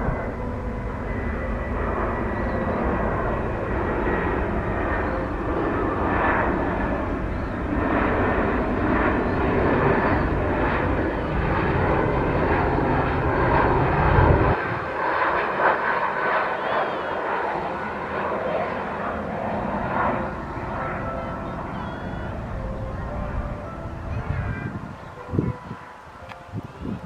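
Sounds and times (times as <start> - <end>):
high engine whine: 0.0 - 27.0
jet engines roaring: 0.0 - 27.0.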